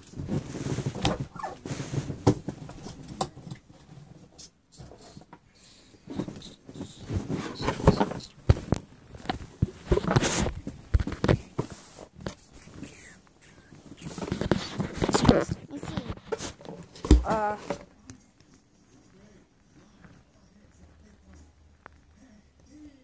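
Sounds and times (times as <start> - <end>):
rustling and scraping of handling: 0.0 - 22.1.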